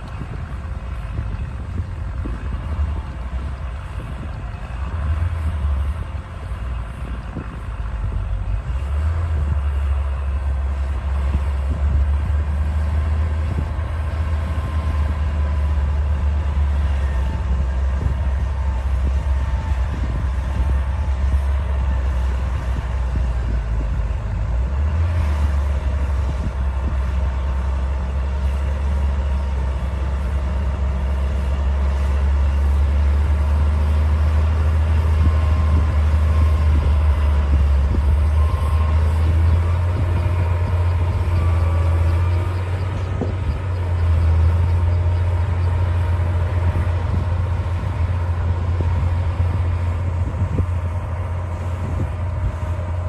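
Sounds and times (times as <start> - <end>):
bulldozer diesel engine drone: 0.0 - 53.0.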